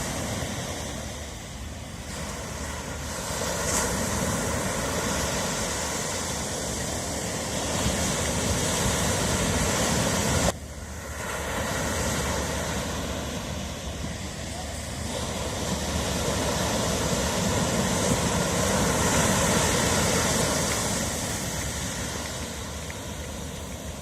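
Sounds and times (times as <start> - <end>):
ocean surf breaking waves: 0.0 - 24.0.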